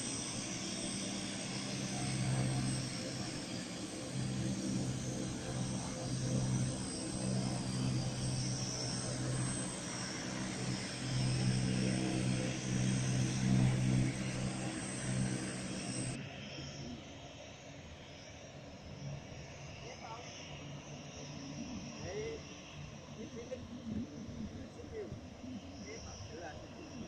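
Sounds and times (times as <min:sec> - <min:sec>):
propeller aircraft engines droning: 0:00.0 - 0:27.0.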